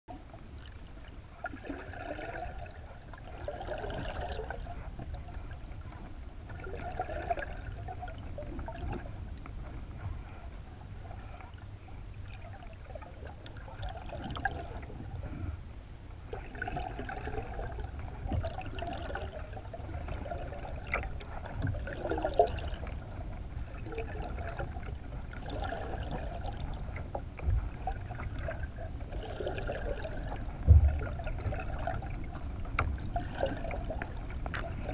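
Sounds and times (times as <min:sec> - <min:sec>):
water splashing: 0:00.1 - 0:05.9, 0:06.5 - 0:09.4, 0:12.2 - 0:15.3, 0:16.3 - 0:34.9
steady low rumble: 0:00.1 - 0:34.9
water sloshing and gurgling: 0:00.1 - 0:34.9.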